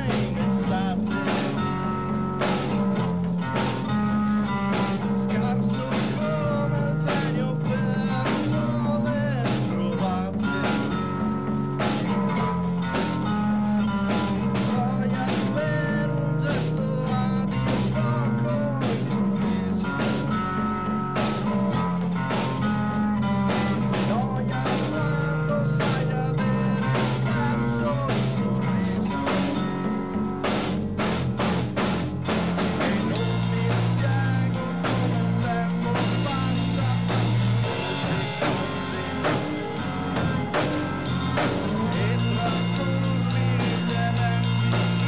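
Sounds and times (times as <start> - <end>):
bass guitar: 0.0 - 45.0
drum kit beat: 0.0 - 45.0
electric guitar: 0.0 - 45.0.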